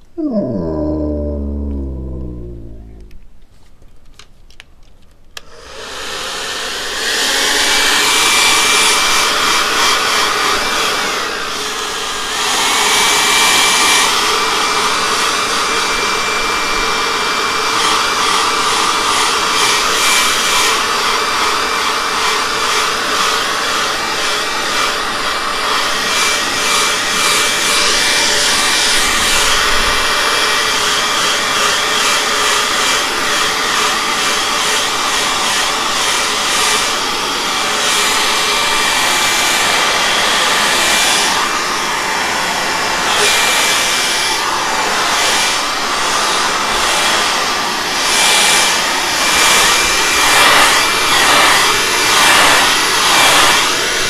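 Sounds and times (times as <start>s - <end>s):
hair dryer blowing with whine: 5.4s - 54.0s.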